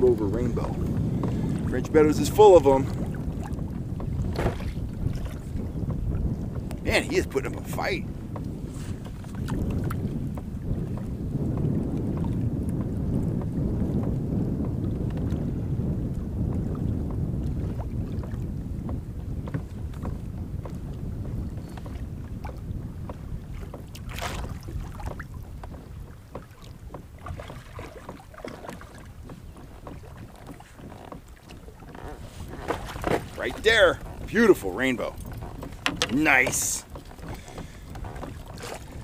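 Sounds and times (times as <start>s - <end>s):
water slapping against kayak: 0.0s - 39.0s
wind buffeting microphone: 0.0s - 39.0s.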